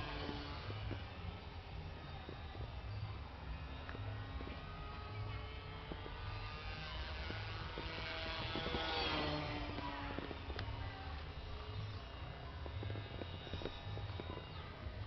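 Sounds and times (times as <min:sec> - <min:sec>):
model airplane motor buzzing: 0:00.0 - 0:15.0.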